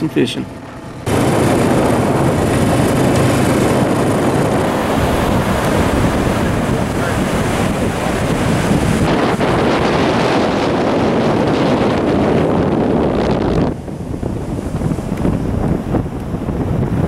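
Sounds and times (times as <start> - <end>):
wind rushing over microphone: 0.0 - 17.0
breaking surf: 1.0 - 17.0.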